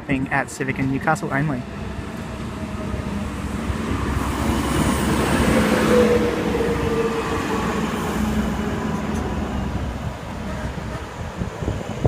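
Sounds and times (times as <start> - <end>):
diesel railcar pulling in: 0.0 - 12.0.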